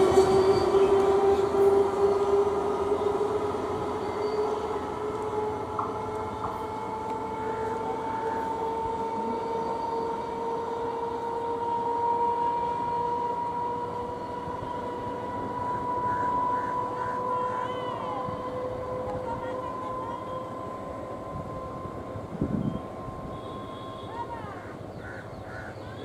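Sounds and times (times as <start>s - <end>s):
traction motor whine: 0.0s - 24.1s
train running rumble: 0.0s - 25.8s.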